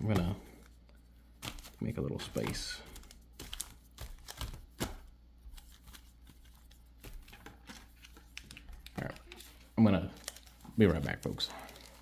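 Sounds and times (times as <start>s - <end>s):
foil packs crinkling: 1.4s - 12.0s.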